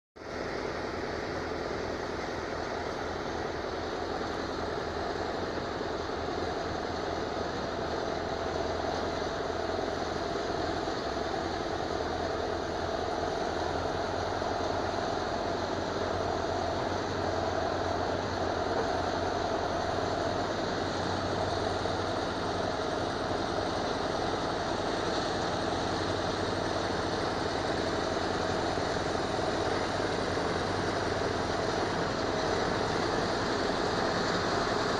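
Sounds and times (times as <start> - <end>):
diesel truck engine running: 0.2 - 34.9.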